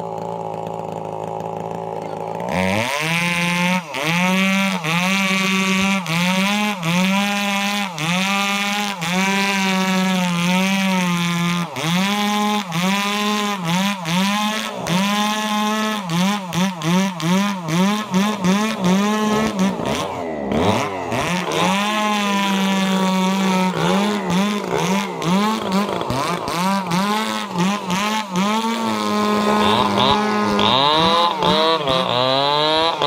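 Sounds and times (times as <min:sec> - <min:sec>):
chainsaw cutting log: 0:00.0 - 0:33.0.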